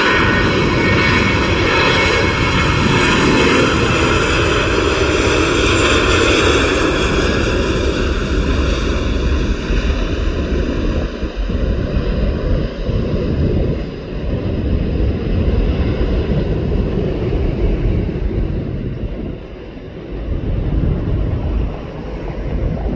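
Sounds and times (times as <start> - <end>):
airliner jet engines passing: 0.0 - 22.9.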